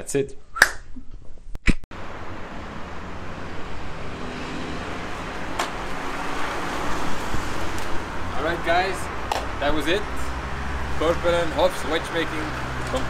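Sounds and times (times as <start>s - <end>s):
wind: 1.2s - 13.0s
distant road traffic: 1.9s - 13.0s.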